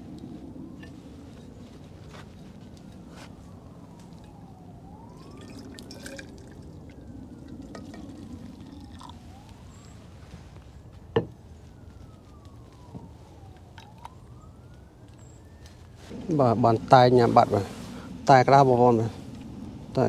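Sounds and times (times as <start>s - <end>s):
distant siren wailing: 0.0s - 20.0s.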